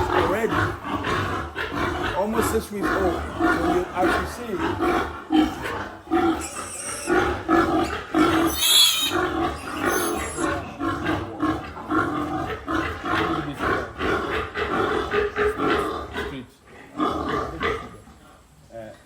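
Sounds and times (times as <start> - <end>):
piglet squealing and grunting: 0.0 - 16.4.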